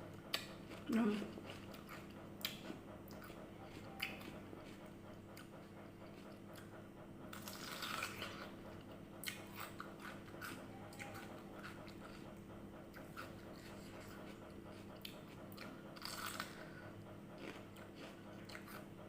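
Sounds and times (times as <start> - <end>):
crunching and chewing fruit: 0.0 - 19.0
low steady hum: 0.0 - 19.0.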